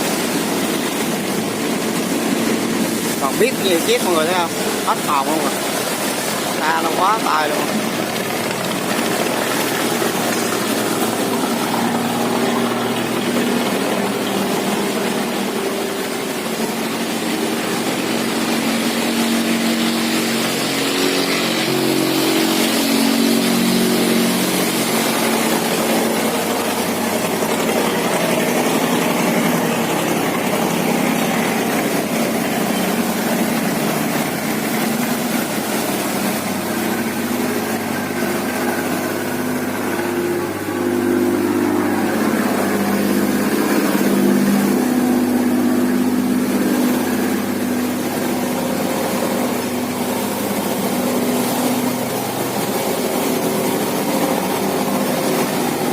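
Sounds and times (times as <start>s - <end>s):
boat engines passing: 0.0s - 55.9s.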